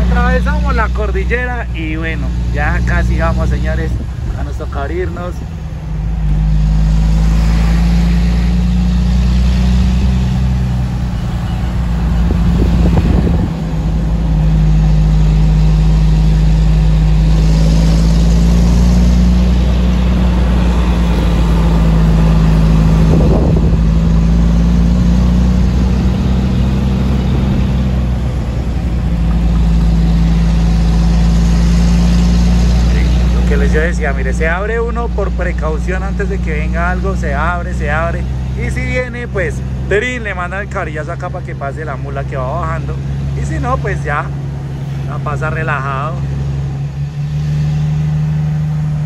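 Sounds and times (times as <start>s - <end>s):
truck diesel engine pulling uphill: 0.0s - 49.0s.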